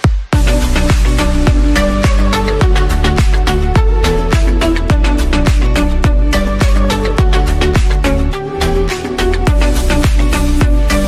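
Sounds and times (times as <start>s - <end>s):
steady drum beat: 0.0s - 8.2s, 9.5s - 11.0s
electronic dance music: 0.0s - 11.0s
held synth notes: 0.4s - 11.0s.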